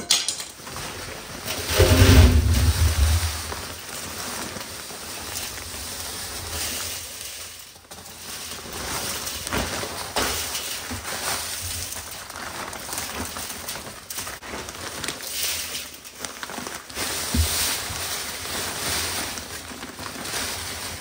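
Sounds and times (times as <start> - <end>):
plastic bag crinkling: 0.5 - 21.0
sand pouring into a drum: 0.9 - 21.0.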